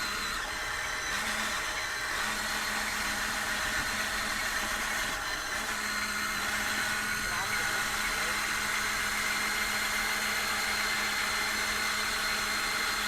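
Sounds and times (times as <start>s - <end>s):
toy machine mechanical hum: 0.0s - 13.0s.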